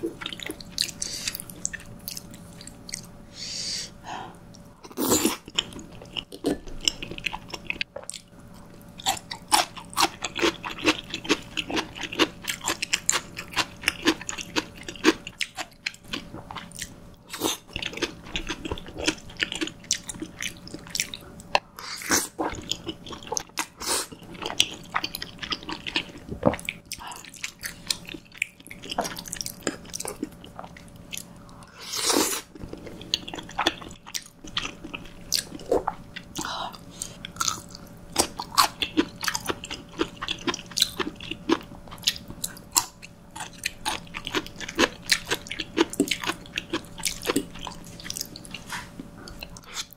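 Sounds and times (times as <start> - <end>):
chewing with mouth clicks: 0.1 - 3.2, 4.5 - 31.7, 32.4 - 49.9.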